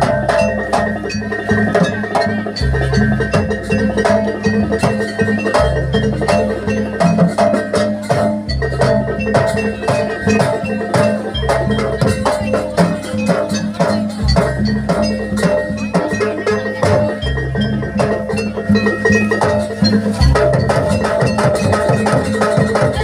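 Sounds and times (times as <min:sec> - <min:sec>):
drum: 0:00.0 - 0:23.0.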